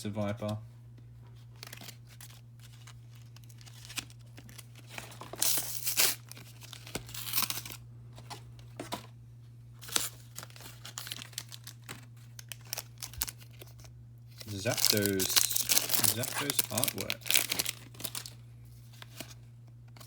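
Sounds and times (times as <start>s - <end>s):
steady low hum: 0.0s - 20.0s
card packaging tearing and crinkling: 1.5s - 9.1s, 9.8s - 19.4s.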